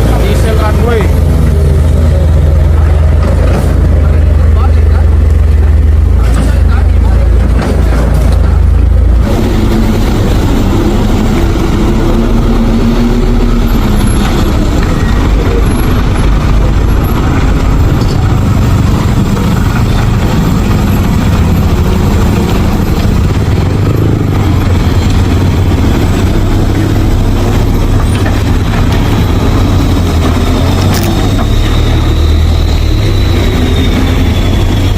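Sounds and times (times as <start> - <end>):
truck engine rumbling: 0.0 - 34.9.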